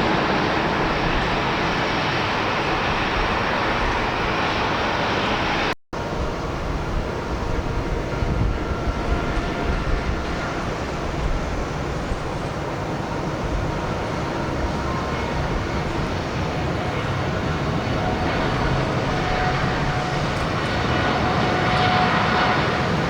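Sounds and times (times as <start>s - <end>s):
jet engines roaring: 0.0s - 23.0s
wind buffeting microphone: 0.0s - 23.0s.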